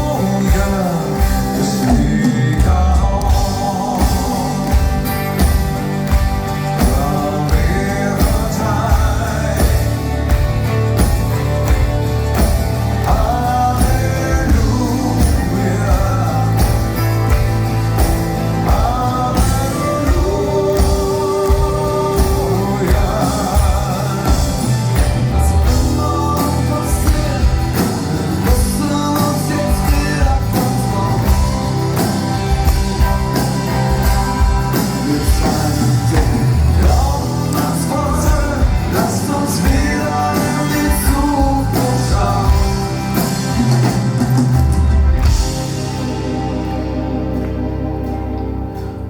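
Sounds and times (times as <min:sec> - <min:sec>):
drum beat: 0:00.0 - 0:46.0
bass: 0:00.0 - 0:49.0
live rock band playing: 0:00.0 - 0:49.0
melodic lead line: 0:00.0 - 0:49.0.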